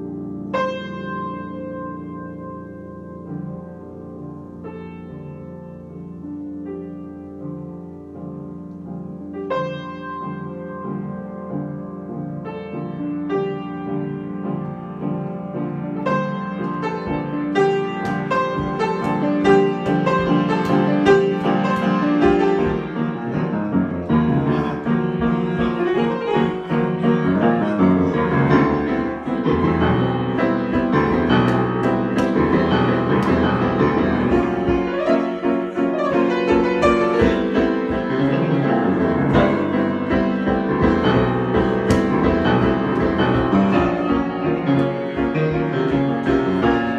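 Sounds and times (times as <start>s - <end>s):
piano improvisation: 0.0s - 46.9s.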